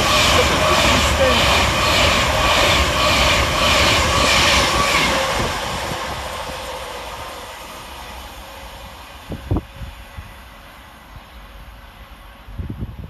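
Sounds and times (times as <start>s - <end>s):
electric train rushing past: 0.0s - 13.0s.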